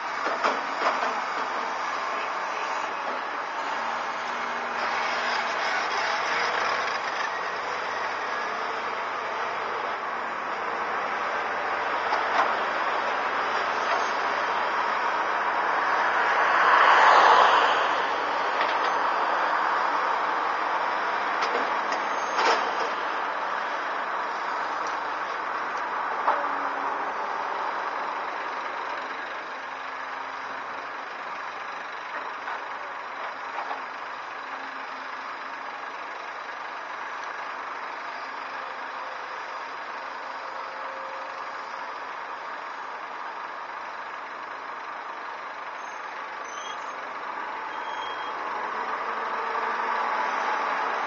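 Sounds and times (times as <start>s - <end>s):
diesel engines running: 0.0s - 51.0s.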